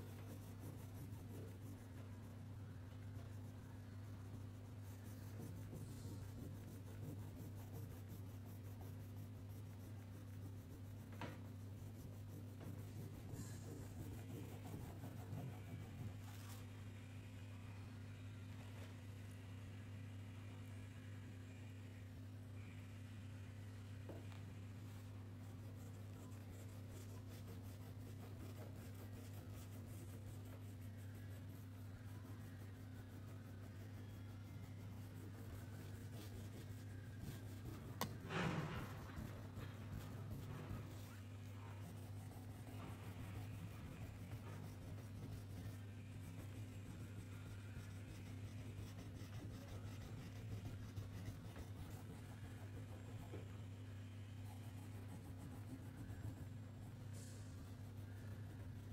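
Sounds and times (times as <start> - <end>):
coloring strokes scratching on paper: 0.0 - 16.7, 24.8 - 58.9
steady low hum: 0.0 - 58.9.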